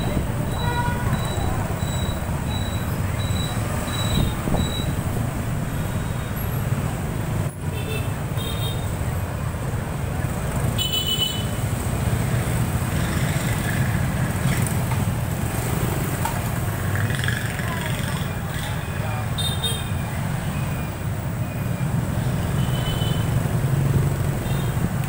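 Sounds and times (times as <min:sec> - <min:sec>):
motorbike engines and road rumble: 0:00.0 - 0:25.0.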